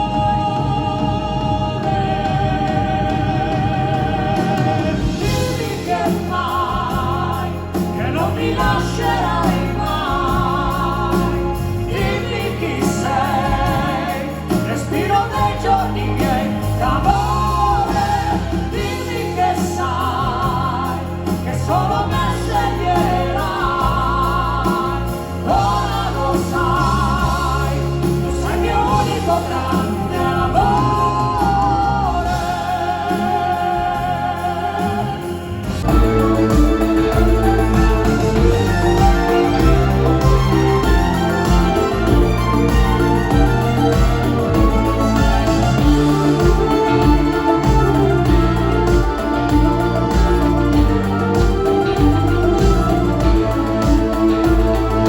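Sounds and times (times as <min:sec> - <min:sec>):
backing music: 0:00.0 - 0:55.0
person singing with vibrato: 0:00.0 - 0:55.0.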